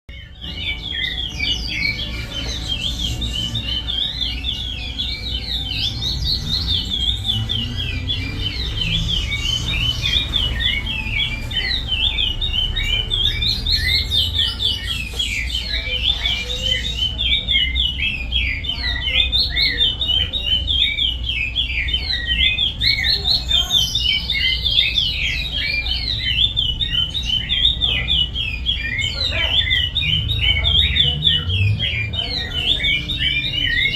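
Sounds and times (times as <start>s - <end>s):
finch singing fast repeated notes: 0.1s - 33.9s.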